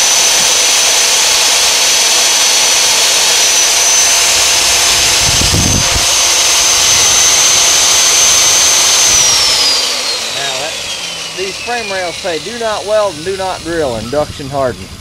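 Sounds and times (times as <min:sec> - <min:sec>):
drill grinding through steel: 0:00.0 - 0:15.0
drill press motor whine: 0:00.0 - 0:15.0.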